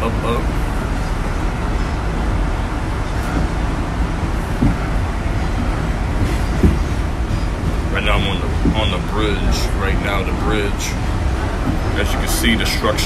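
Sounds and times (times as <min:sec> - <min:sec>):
train clunks: 0:00.0 - 0:13.0
train wheels rumbling on rails: 0:00.0 - 0:13.0.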